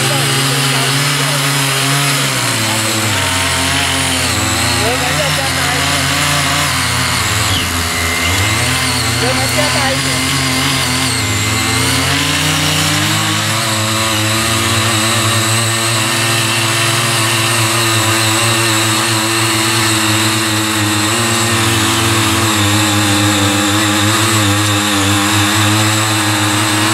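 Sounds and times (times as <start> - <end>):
rotary tines tilling soil: 0.0 - 26.9
small petrol engines running: 0.0 - 26.9.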